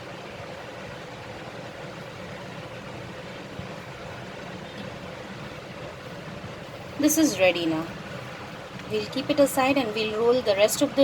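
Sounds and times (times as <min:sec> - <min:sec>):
appliance humming with hiss: 0:00.0 - 0:11.0.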